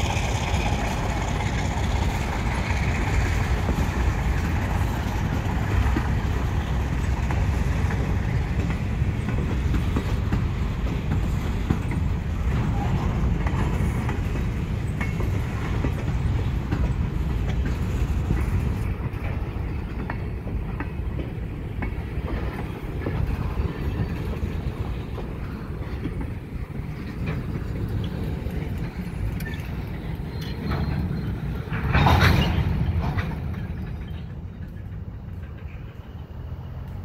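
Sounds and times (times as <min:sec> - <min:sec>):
freight cars rumbling: 0:00.0 - 0:37.0.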